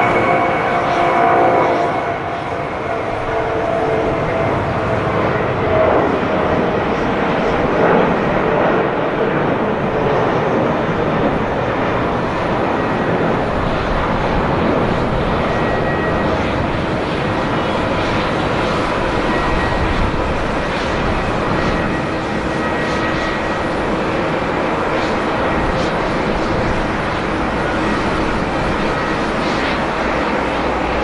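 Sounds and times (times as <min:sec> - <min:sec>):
jet engines roaring at takeoff: 0:00.0 - 0:31.0.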